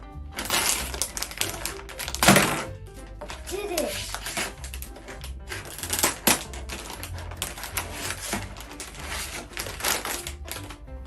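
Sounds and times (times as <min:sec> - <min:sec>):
scissors cutting plastic packaging: 0:00.4 - 0:10.8
stiff plastic crackling and clicking: 0:00.4 - 0:11.0.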